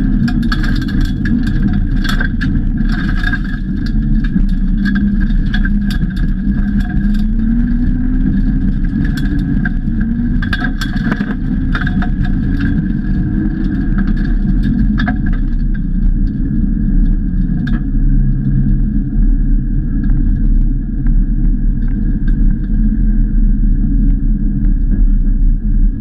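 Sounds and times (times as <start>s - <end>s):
car engine pulling hard: 0.0s - 25.2s
gravel clattering on underbody: 0.0s - 25.5s.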